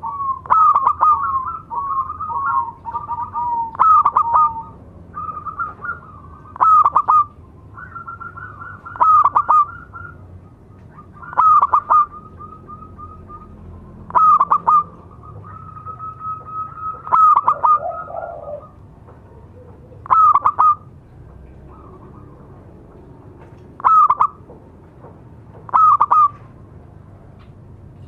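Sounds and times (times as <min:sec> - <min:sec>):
dove rapid staccato cooing: 0:00.0 - 0:26.6.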